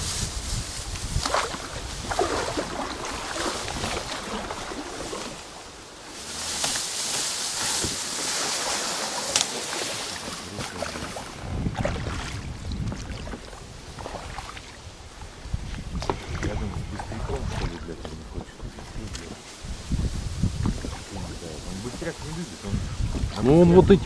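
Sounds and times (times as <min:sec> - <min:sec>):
wind rumble on microphone: 0:00.0 - 0:08.9, 0:09.8 - 0:24.0
water splashing around a boat: 0:00.0 - 0:24.0.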